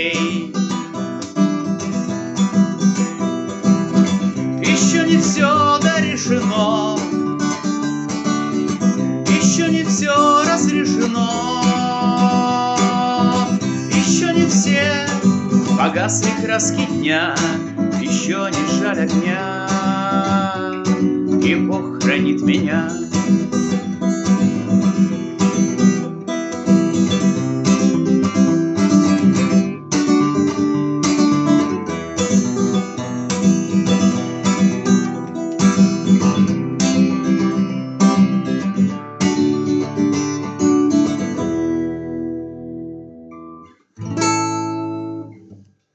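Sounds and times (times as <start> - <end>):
acoustic guitar strumming: 0.0 - 45.6.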